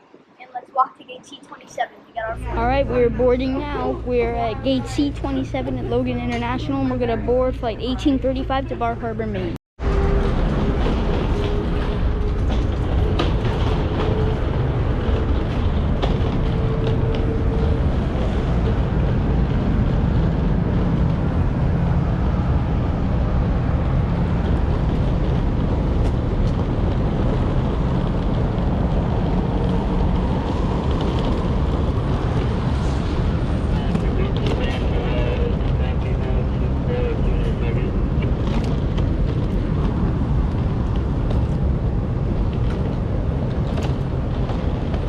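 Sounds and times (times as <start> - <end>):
low engine rumble: 2.2 - 45.0.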